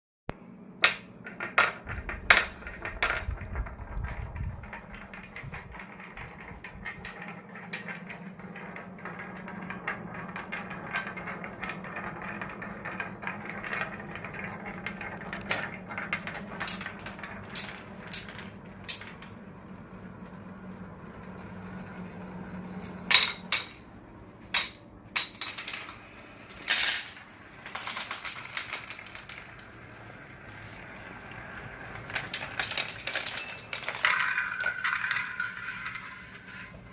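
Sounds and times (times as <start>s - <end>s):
marbles rolling on wood: 0.7s - 36.9s
marbles clacking on wood: 0.8s - 20.3s, 22.9s - 23.9s, 24.5s - 36.9s
rattling clatter: 1.2s - 19.5s, 20.2s - 36.9s.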